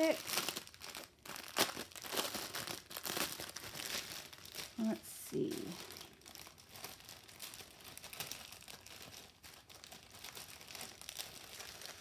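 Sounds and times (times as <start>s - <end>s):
plastic packets clicking: 0.0s - 4.8s, 5.5s - 12.0s
plastic bag crinkling: 0.0s - 12.0s.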